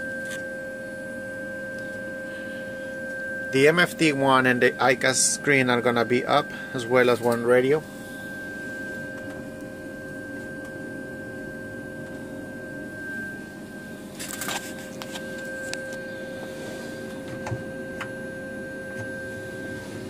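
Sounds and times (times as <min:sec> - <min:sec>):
steady electrical hum: 0:00.0 - 0:20.0
whining tones: 0:00.0 - 0:20.0.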